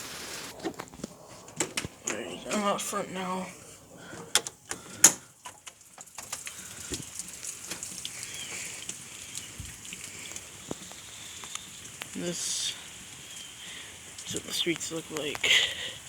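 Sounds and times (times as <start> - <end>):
heavy rain hissing: 0.0 - 16.0
raindrop ticks: 0.0 - 16.0.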